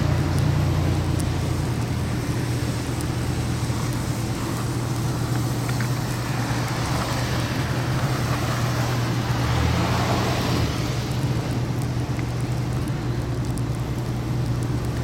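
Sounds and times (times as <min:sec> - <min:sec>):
low engine hum: 0:00.0 - 0:15.0
road and tyre noise: 0:00.0 - 0:15.0.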